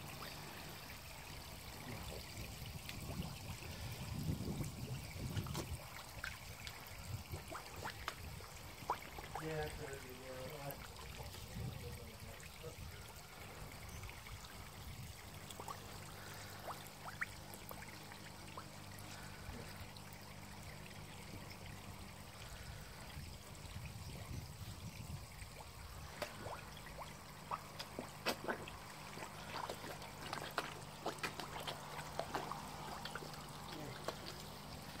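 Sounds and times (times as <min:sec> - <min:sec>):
water drips and splashes: 0:00.0 - 0:35.0
water trickling into pond: 0:00.0 - 0:35.0.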